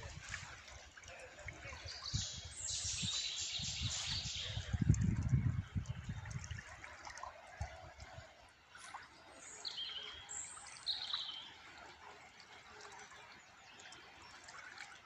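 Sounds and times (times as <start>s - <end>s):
water trickling: 0.0s - 15.0s
songbirds chirping: 0.6s - 15.0s.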